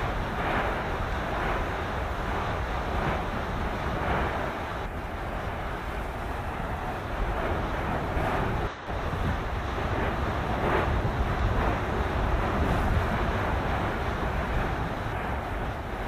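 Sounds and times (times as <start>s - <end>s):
steam eruption rushing rumble: 0.0s - 16.0s
wind buffeting microphone: 0.0s - 16.0s.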